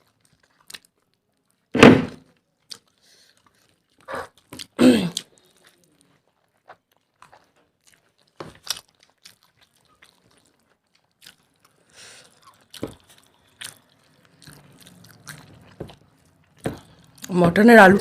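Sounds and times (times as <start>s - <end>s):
wet chewing and crunching: 0.0s - 1.7s, 2.3s - 17.4s.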